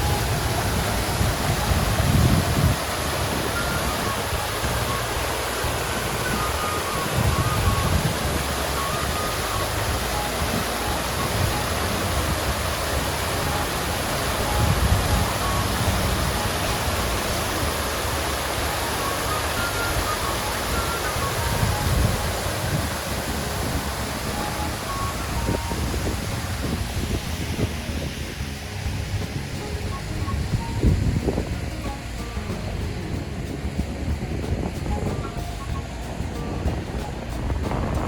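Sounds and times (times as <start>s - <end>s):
water fountain splashing: 0.0s - 38.0s.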